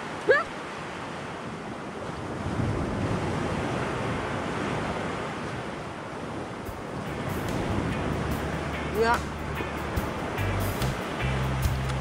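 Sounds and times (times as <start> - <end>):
surf on rocky shore: 0.0 - 12.0.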